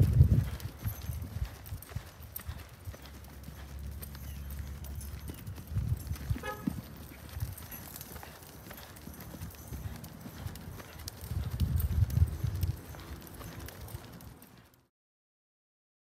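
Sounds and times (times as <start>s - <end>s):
hooves thudding in sand: 0.0s - 14.8s.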